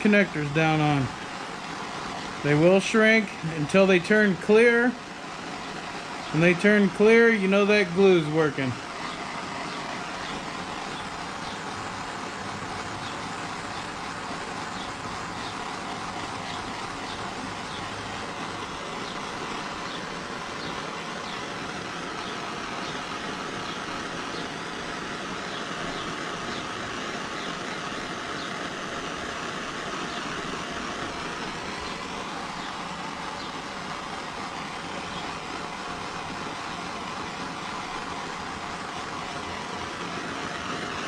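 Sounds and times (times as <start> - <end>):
gas torch flame hissing: 0.0 - 41.0.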